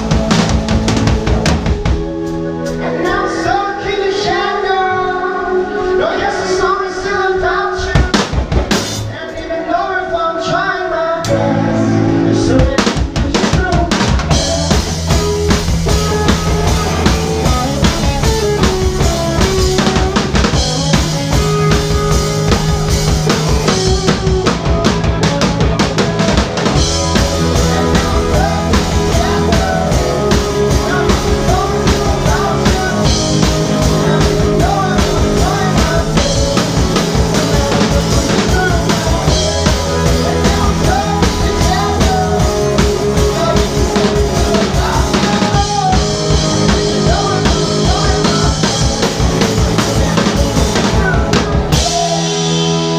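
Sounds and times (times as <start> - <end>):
rock band playing instrumental: 0.0 - 9.9, 11.2 - 52.9.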